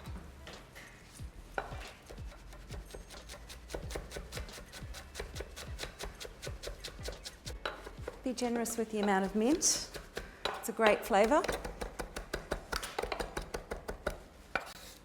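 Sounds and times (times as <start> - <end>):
knife chopping on cutting board: 1.6 - 8.2, 9.0 - 14.8.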